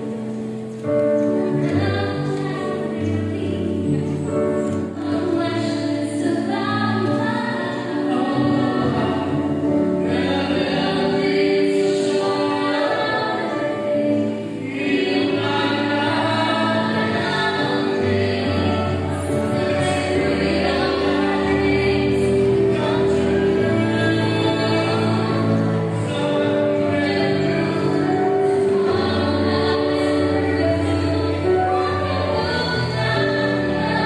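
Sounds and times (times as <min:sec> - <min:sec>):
slow song with singing: 0:00.0 - 0:34.0.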